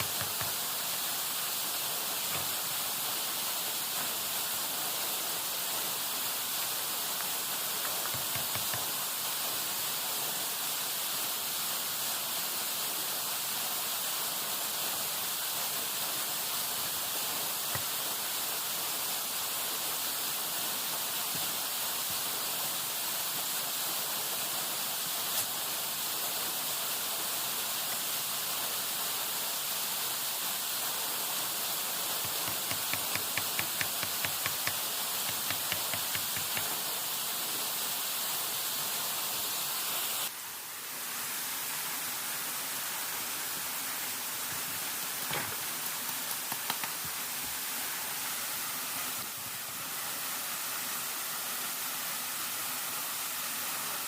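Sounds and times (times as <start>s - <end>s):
rushing water hiss: 0.0s - 54.0s.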